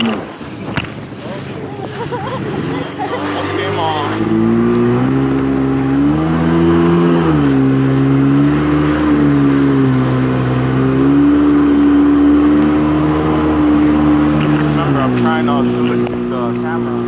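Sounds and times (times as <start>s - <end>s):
jet ski engine droning: 0.0s - 17.0s
rush of wind and water: 0.0s - 17.0s.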